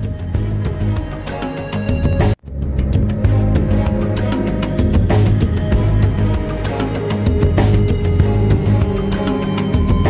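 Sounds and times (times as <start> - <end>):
dramatic news theme music: 0.3 - 10.0.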